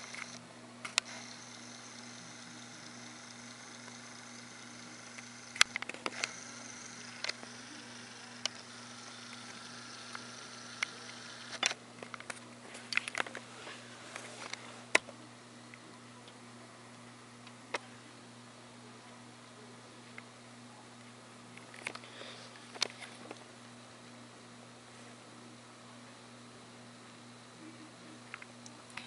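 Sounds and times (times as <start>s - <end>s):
low hum and hiss: 0.0s - 29.0s.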